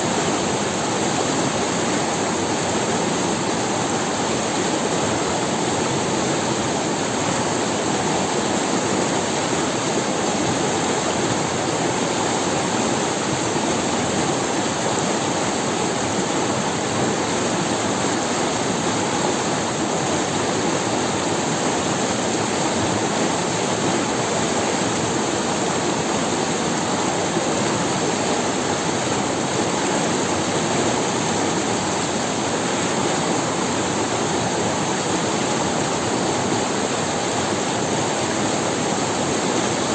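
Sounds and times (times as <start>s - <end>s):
river running over stones: 0.0s - 39.9s.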